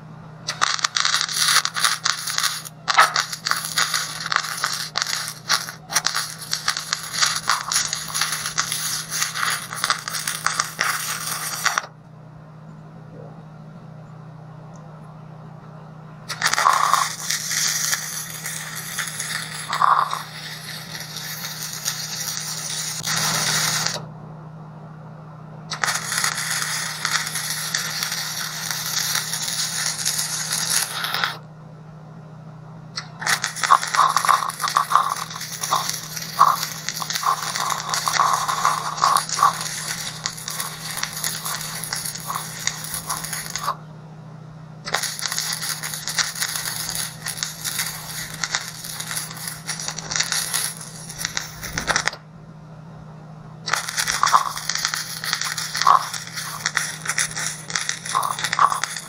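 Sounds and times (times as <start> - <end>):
arc welding crackling: 0.4 - 12.0, 16.2 - 24.1, 25.7 - 31.4, 33.0 - 43.8, 44.8 - 52.2, 53.6 - 59.0.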